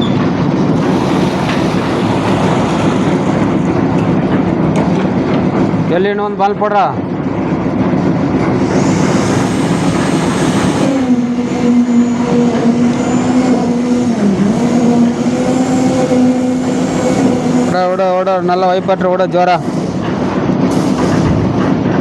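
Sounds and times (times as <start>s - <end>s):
machine engine running: 0.0s - 6.4s, 7.0s - 22.0s.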